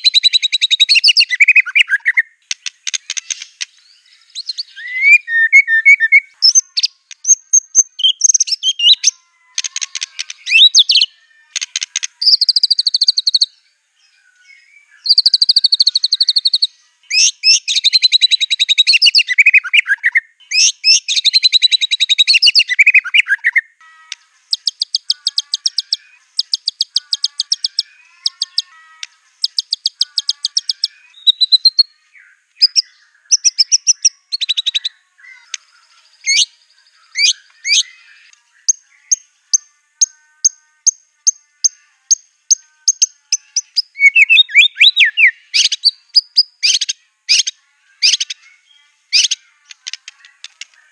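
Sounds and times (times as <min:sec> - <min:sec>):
songbird singing varied song: 0:00.0 - 0:50.9.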